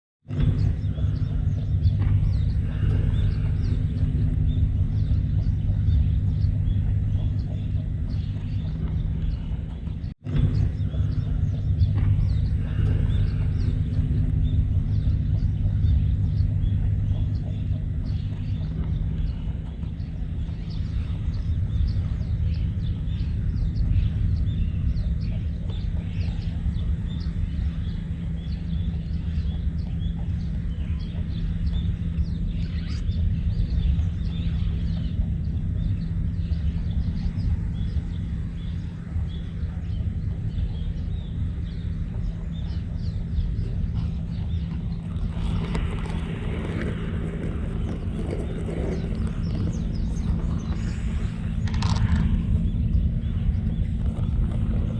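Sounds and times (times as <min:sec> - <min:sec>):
low engine-like drone: 0:00.2 - 0:54.9.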